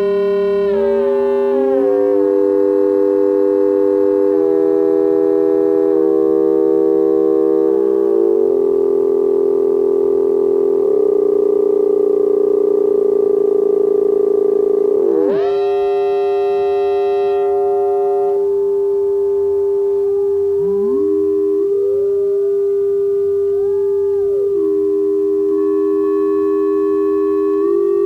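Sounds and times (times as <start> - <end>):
shifting electronic tones: 0.0 - 28.0
steady electronic sine tone: 0.0 - 28.0.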